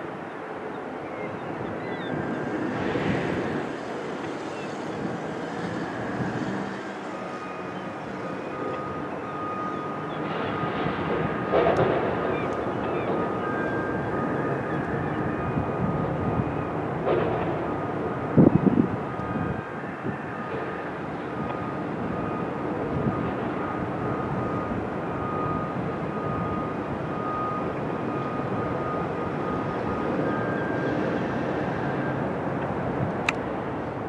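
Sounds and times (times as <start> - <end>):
city traffic noise: 0.0 - 34.0.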